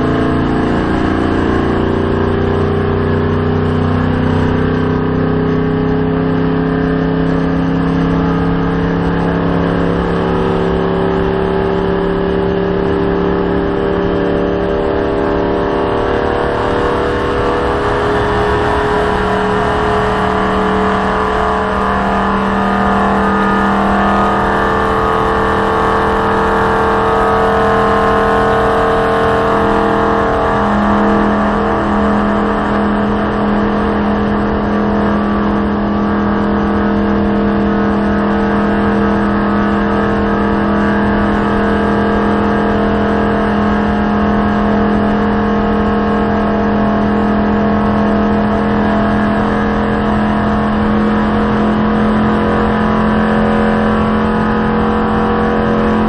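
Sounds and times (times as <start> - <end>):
race car engine running flat out: 0.0 - 56.0.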